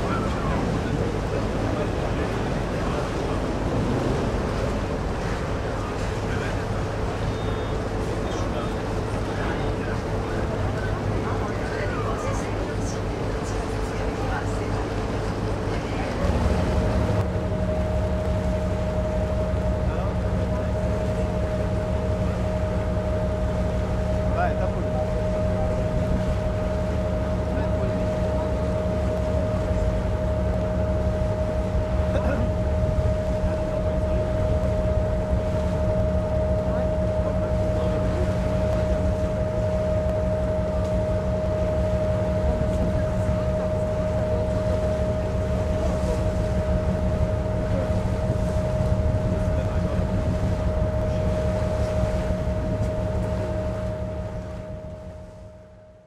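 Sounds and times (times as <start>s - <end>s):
constant whine: 0.0s - 56.0s
ship engine droning: 0.0s - 56.0s
wind and water noise: 0.0s - 56.0s.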